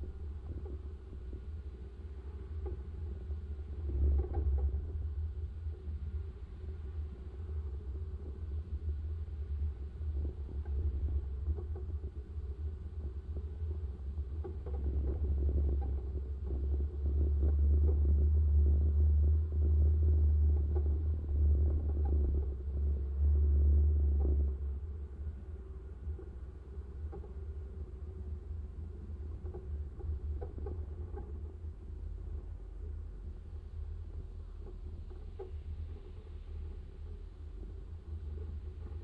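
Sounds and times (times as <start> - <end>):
vehicle rumble on rough road: 0.0 - 39.0
wind noise on microphone: 0.0 - 39.0.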